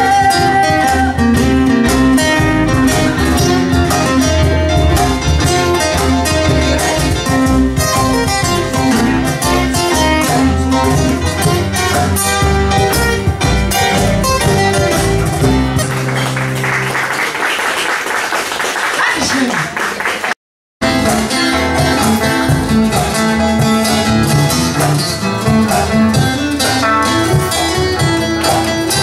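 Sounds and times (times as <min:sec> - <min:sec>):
guitars: 0:00.0 - 0:17.1, 0:20.8 - 0:29.0
small band playing: 0:00.0 - 0:29.0.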